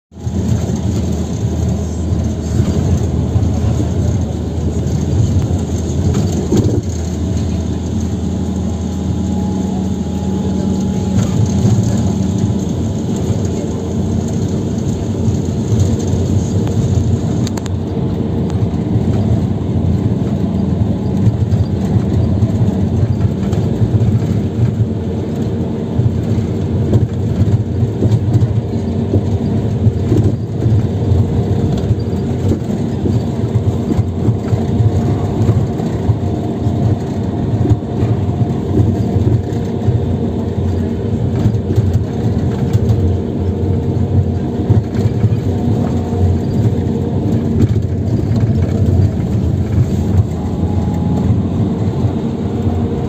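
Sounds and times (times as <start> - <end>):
vehicle engine and road rumble: 0.0 - 53.0.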